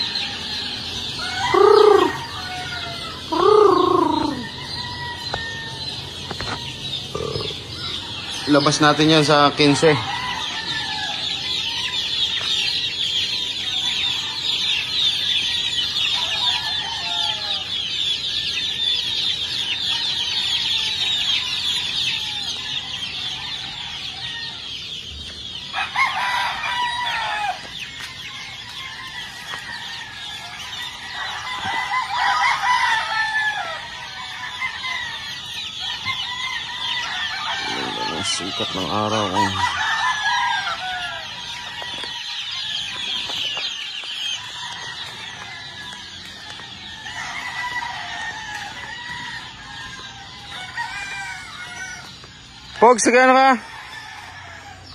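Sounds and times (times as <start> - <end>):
chicks peeping: 0.0 - 54.9
roosters crowing: 0.0 - 54.9.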